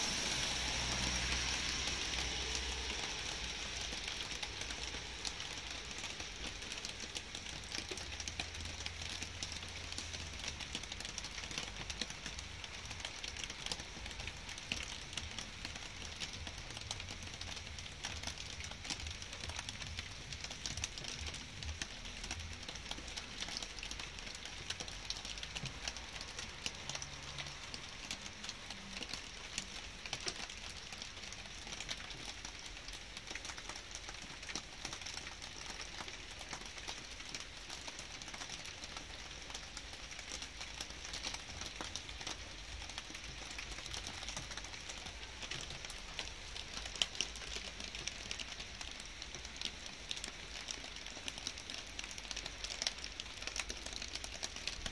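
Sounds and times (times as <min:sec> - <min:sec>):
light rain falling: 0:00.0 - 0:54.9
louder raindrops: 0:00.0 - 0:54.9.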